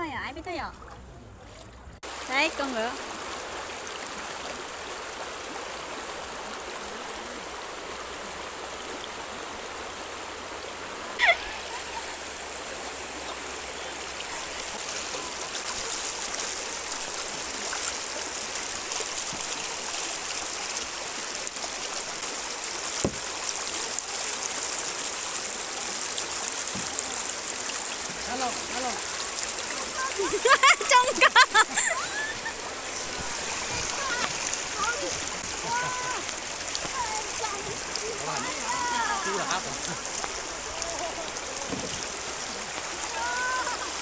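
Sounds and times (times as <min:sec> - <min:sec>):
river water rushing over rapids: 0:02.0 - 0:44.0.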